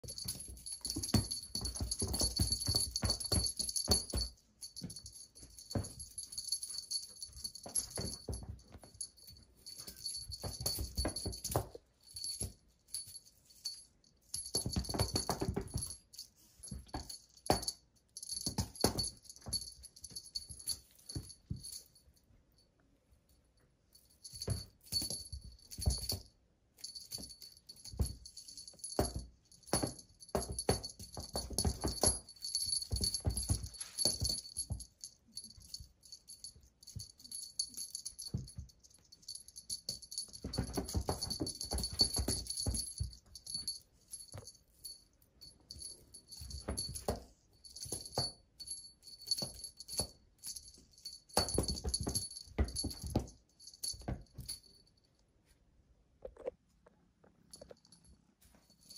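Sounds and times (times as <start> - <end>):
beaded cat toy jingling: 0.0 - 22.4, 23.8 - 55.2, 57.5 - 58.9.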